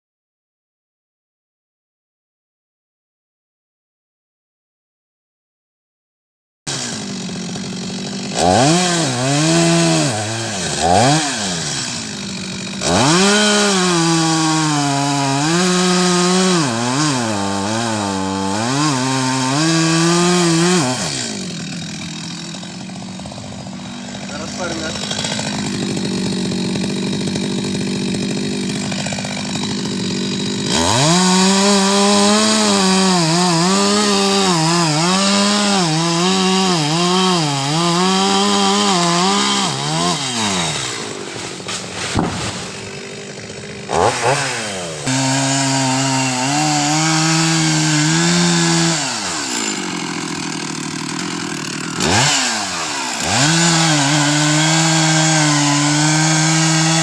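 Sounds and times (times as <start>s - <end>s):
chainsaw cutting wood: 6.7s - 57.0s
chainsaw idling and revving: 6.7s - 57.0s.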